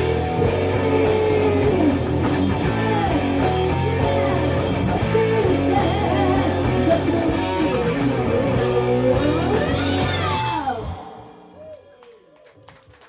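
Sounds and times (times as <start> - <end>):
electric guitar bending melody: 0.0 - 11.5
rock band playing live: 0.0 - 11.5.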